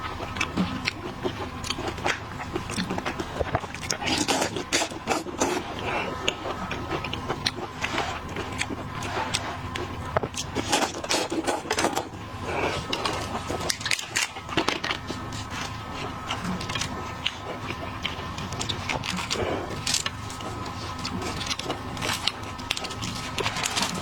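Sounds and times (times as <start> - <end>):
chewing: 0.0 - 24.0.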